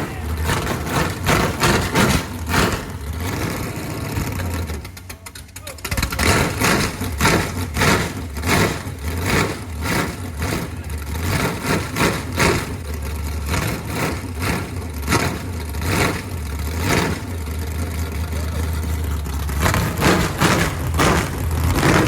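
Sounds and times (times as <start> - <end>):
car engine rumbling with loud pulses: 0.0 - 22.0.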